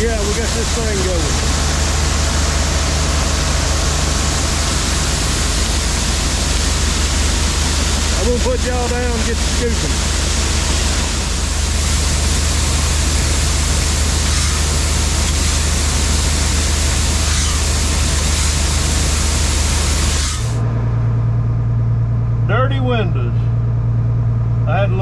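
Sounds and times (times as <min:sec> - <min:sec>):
loud even hiss: 0:00.0 - 0:20.6
low engine hum: 0:00.0 - 0:25.0.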